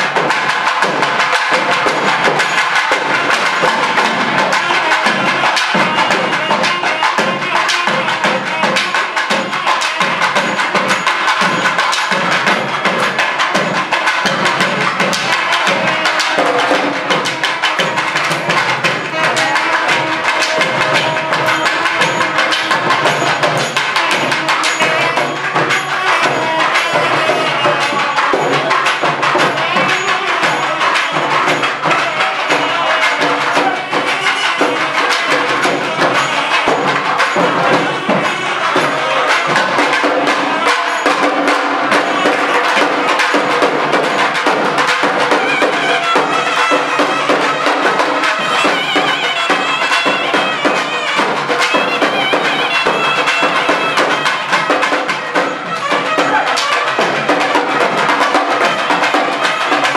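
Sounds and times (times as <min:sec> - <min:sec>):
fast dense drumming: 0:00.0 - 0:59.9
reedy wind instrument melody: 0:02.0 - 0:59.9.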